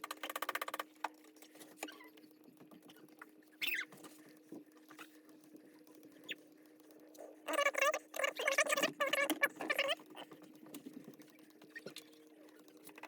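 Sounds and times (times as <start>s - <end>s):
faint handling clicks: 0.0s - 13.0s.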